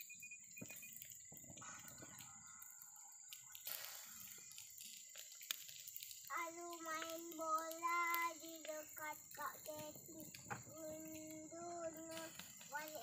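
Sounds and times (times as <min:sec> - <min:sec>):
faint high whine: 0:00.0 - 0:04.8, 0:06.2 - 0:13.0
faint clicks: 0:00.6 - 0:13.0.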